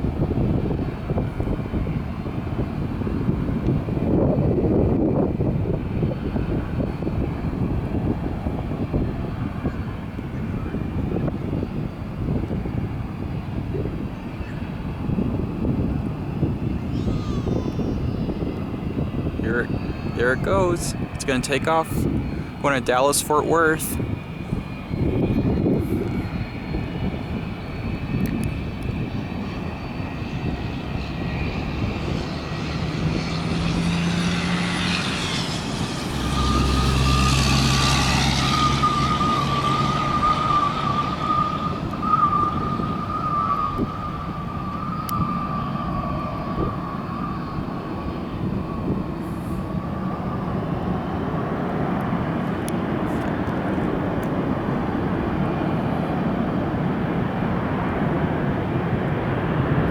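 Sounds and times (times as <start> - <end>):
jet engines roaring at takeoff: 0.0 - 59.9.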